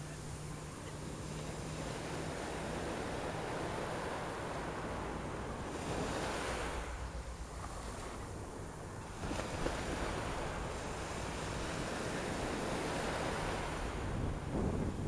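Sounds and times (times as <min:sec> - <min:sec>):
surf washing up beach: 0:00.0 - 0:15.0
wind buffeting microphone: 0:00.2 - 0:15.0.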